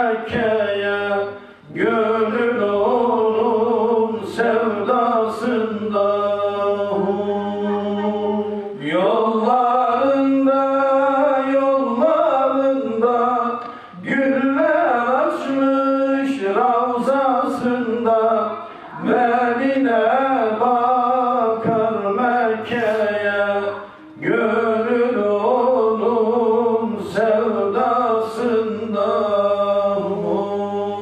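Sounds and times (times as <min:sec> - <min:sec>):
man singing unaccompanied hymn: 0:00.0 - 0:31.0.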